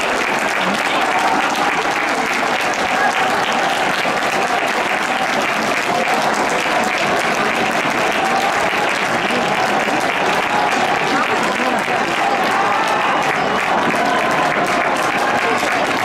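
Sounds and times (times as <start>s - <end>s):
crowd voices: 0.0s - 16.0s
stadium crowd applauding: 0.0s - 16.0s.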